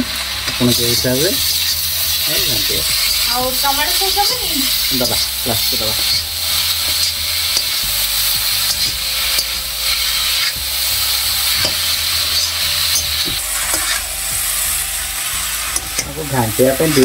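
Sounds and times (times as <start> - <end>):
noodles sizzling in a pan: 0.0 - 17.0
spatula scraping a steel pan: 0.0 - 17.0.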